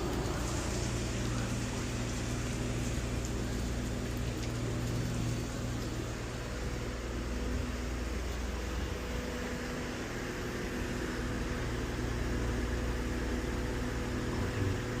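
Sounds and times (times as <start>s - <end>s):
steady machinery drone: 0.0s - 15.0s.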